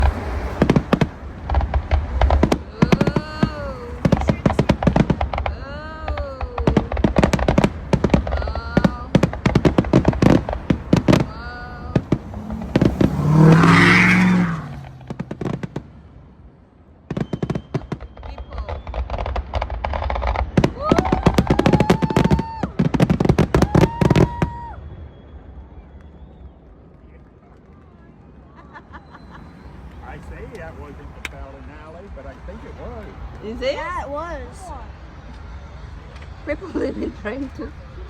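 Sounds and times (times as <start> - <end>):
fireworks bangs and crackling: 0.0 - 38.0
rising and falling firework tones: 0.0 - 38.0.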